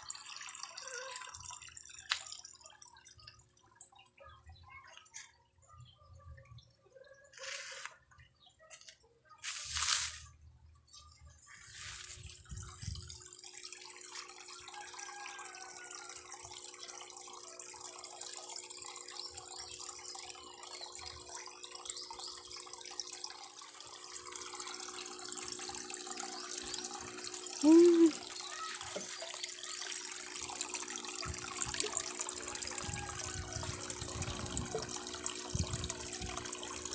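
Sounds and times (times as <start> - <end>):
water pouring into pond: 0.0 - 4.3, 9.5 - 36.9.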